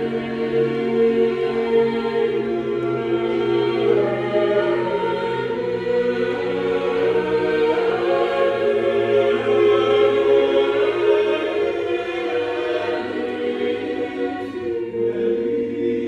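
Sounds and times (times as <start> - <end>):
mixed choir singing: 0.0 - 16.0.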